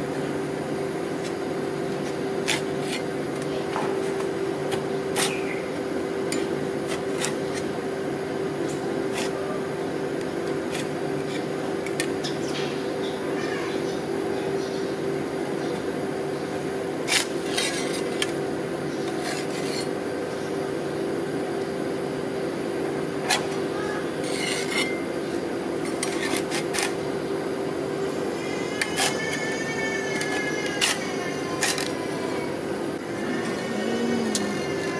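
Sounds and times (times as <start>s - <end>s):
machine humming: 0.0s - 34.9s.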